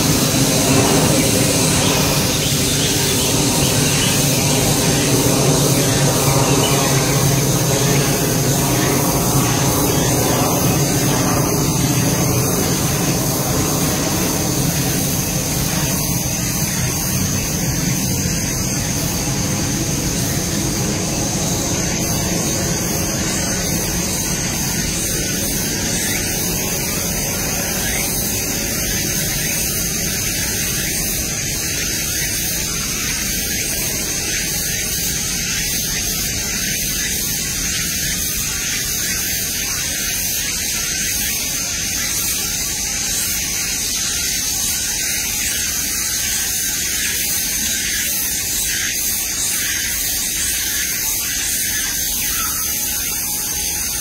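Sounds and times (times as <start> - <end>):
steady rushing hiss: 0.0 - 54.0
thin high whine: 0.0 - 54.0.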